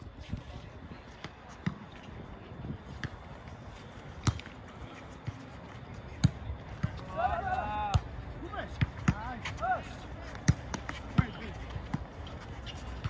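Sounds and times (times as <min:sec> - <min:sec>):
faint open-air background noise: 0:00.0 - 0:13.0.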